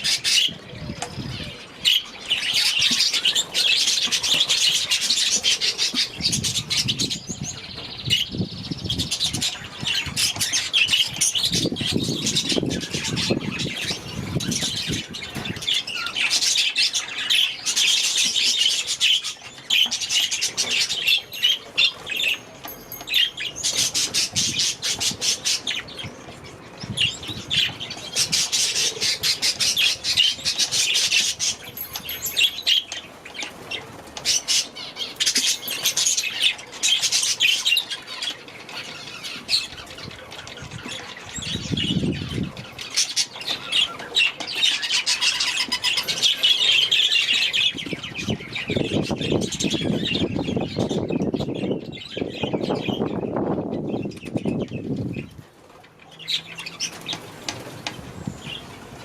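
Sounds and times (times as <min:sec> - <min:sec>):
budgerigars chattering and squawking: 0:00.0 - 0:22.5, 0:23.1 - 0:55.4.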